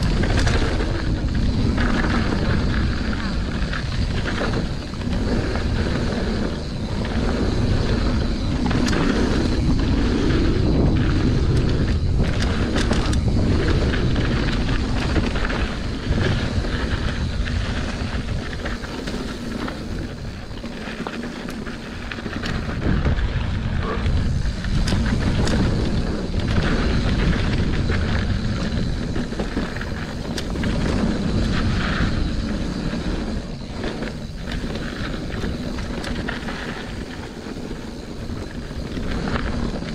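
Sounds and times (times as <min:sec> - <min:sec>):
bike clicks and rattles: 0:00.0 - 0:39.9
tyres rolling over dirt trail: 0:00.0 - 0:39.9
wind buffeting microphone: 0:00.0 - 0:39.9.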